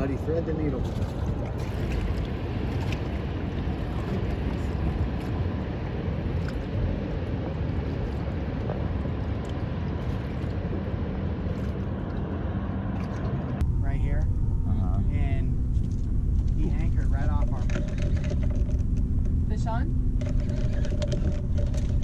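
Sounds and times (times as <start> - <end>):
ship engines droning: 0.0 - 22.0.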